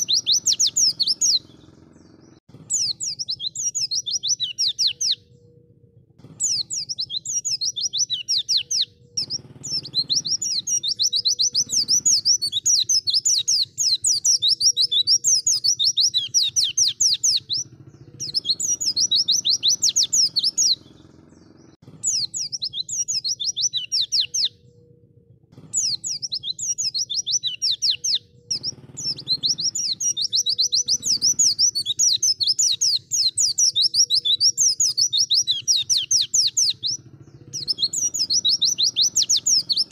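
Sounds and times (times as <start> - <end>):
bird chirping trills: 0.0 - 39.9.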